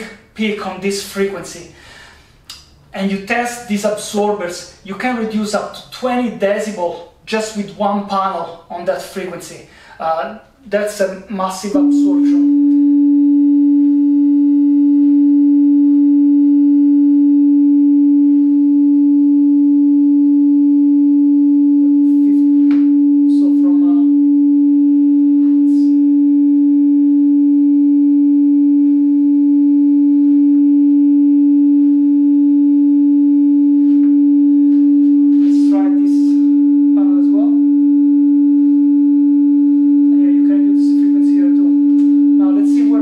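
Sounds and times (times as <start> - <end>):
steady sine test tone: 0.0 - 43.0.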